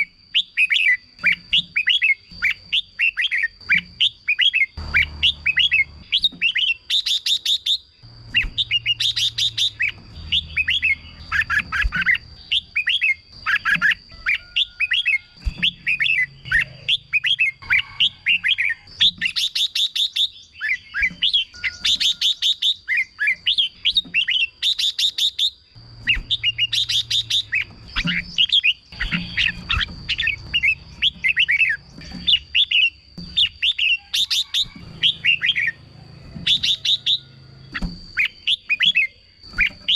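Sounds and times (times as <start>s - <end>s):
birds singing bubbling whistles: 0.0s - 35.8s, 36.4s - 39.9s.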